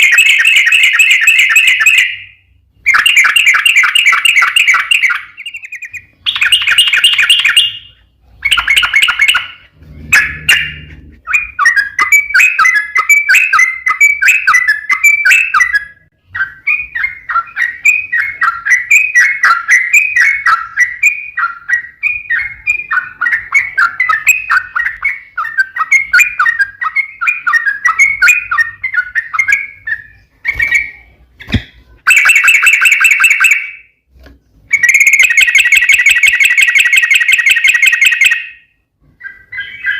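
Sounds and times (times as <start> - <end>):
bird singing chattering phrases: 0.0 - 33.5, 39.2 - 39.9.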